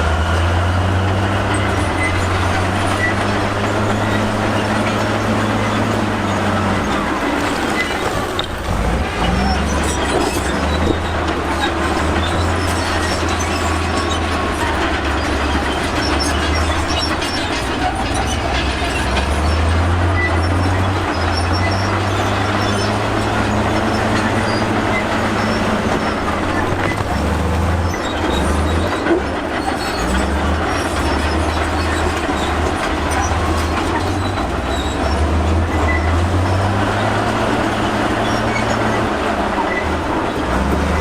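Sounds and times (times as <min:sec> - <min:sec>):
bulldozer diesel engine under load: 0:00.0 - 0:41.0
steel tracks clanking and squealing: 0:00.0 - 0:41.0.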